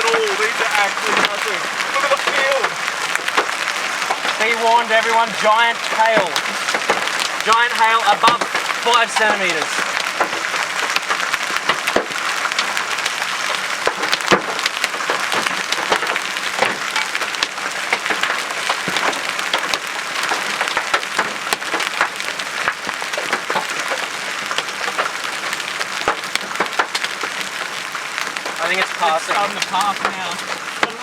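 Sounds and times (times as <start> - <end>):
hailstones pounding a car: 0.0 - 31.0.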